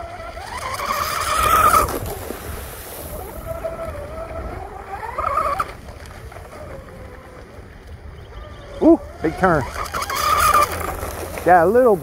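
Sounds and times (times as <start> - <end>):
high motor whine: 0.0 - 2.3, 3.1 - 12.0.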